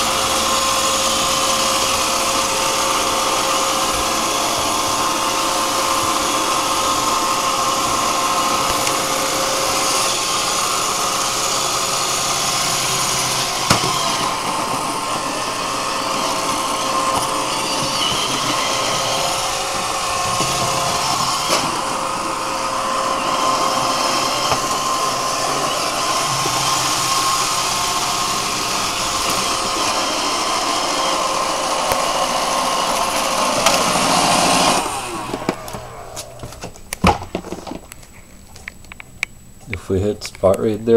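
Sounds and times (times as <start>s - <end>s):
robot vacuum running: 0.0s - 37.9s.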